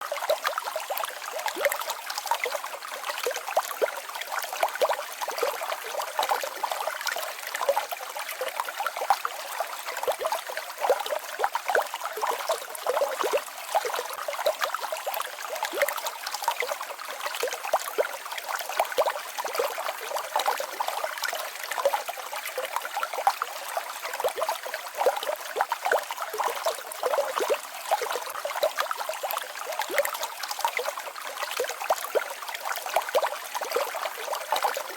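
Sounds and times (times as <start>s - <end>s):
stream babbling over rocks: 0.0s - 34.9s.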